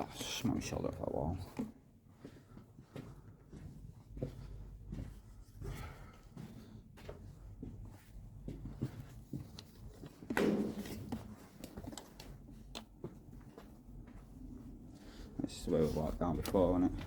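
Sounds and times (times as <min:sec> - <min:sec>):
footsteps on gritty floor: 0:01.4 - 0:17.0.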